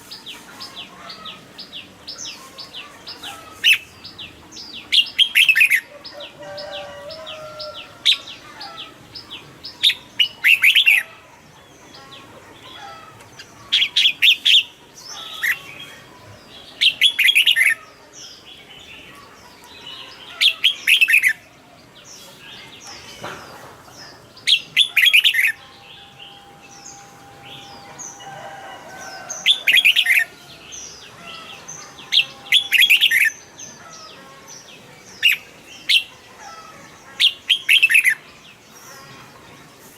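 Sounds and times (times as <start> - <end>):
bird singing warbling phrases: 0.0 - 39.9.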